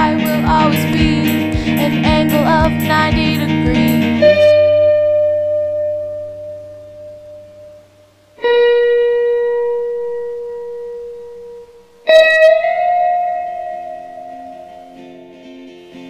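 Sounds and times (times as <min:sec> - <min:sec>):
guitar notes ringing: 0:00.0 - 0:16.0.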